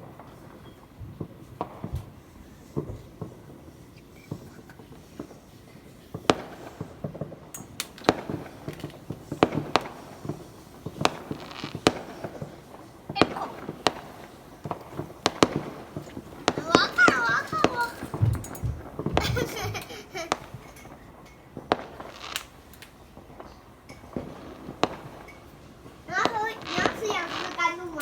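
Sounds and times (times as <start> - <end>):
fireworks banging: 0.0 - 28.0.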